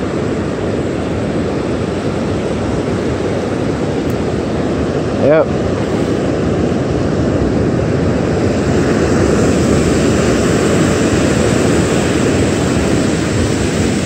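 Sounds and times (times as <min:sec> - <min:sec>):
surf breaking on sandy beach: 0:00.0 - 0:14.0
wind buffeting microphone: 0:00.0 - 0:14.0.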